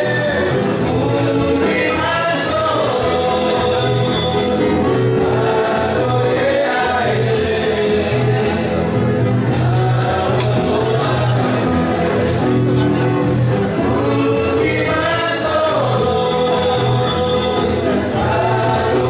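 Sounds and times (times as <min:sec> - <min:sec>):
men singing in harmony: 0:00.0 - 0:19.0
plucked bass line: 0:00.0 - 0:19.0
strummed acoustic guitar: 0:00.0 - 0:19.0
ukulele: 0:00.0 - 0:19.0.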